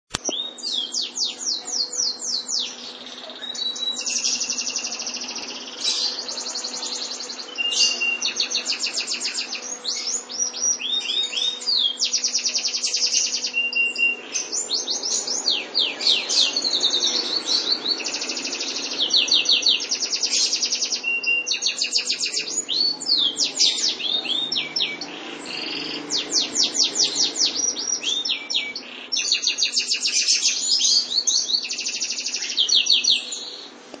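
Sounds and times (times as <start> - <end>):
canary singing trills: 0.1 - 33.8.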